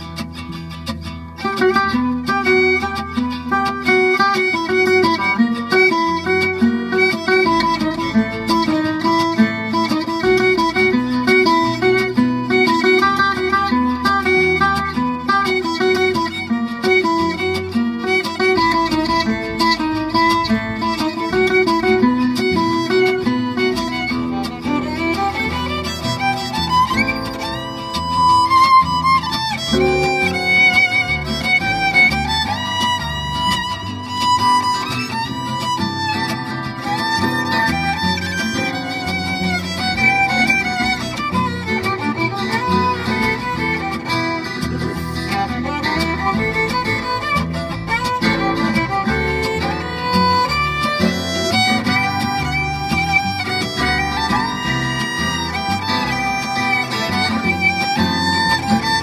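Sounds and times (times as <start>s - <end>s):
acoustic guitars strumming: 0.0s - 59.0s
upright double bass: 0.0s - 59.0s
violin melody: 0.0s - 59.0s.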